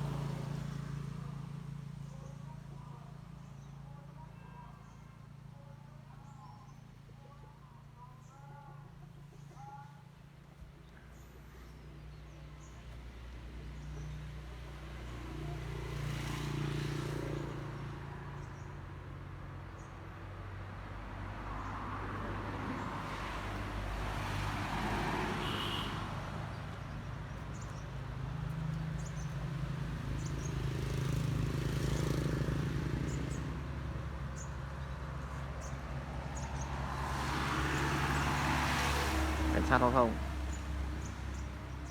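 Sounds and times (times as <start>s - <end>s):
low engine hum: 0.0s - 41.9s
vehicles passing by: 0.0s - 41.9s.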